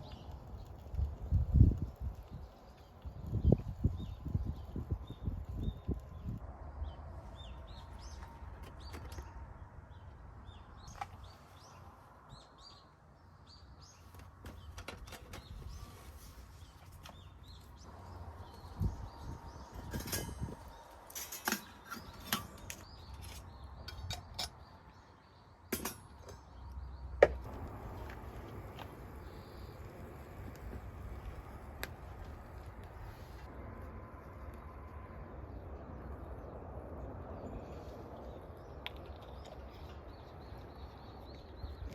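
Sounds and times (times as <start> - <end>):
small birds chirping: 0.0 - 33.4, 37.3 - 41.9.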